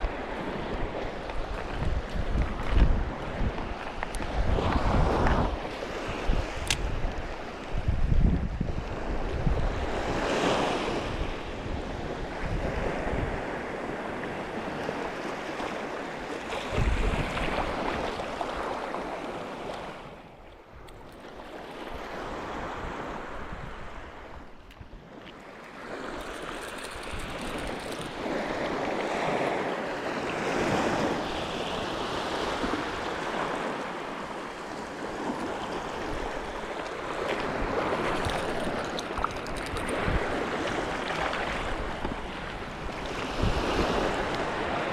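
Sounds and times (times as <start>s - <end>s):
sea waves washing against shore: 0.0s - 44.9s
wind buffeting microphone: 0.0s - 44.9s.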